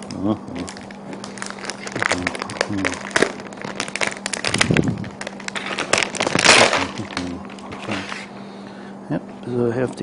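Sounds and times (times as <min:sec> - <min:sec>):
plastic film crinkling as peeled: 0:00.0 - 0:08.3.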